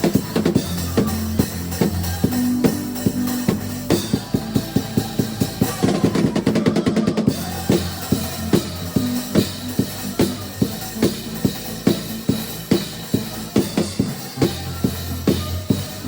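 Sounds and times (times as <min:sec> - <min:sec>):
bass line: 0:00.0 - 0:16.0
drum kit beat: 0:00.0 - 0:16.0.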